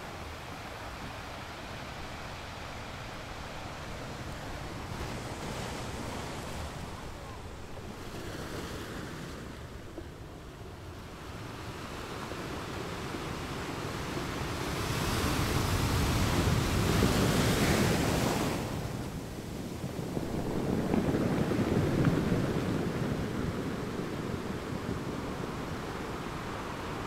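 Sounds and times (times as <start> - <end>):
ocean surf on beach: 0.0 - 27.0.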